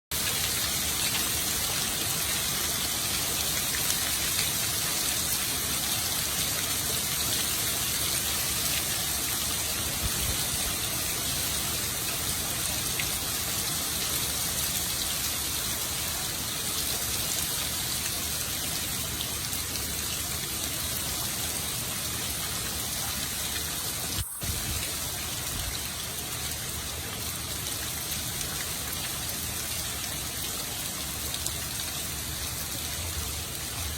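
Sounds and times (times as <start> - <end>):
hard rain falling: 0.1 - 33.9.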